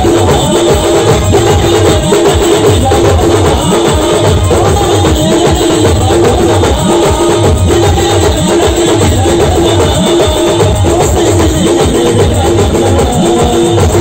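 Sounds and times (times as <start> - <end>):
live band music: 0.0 - 14.0.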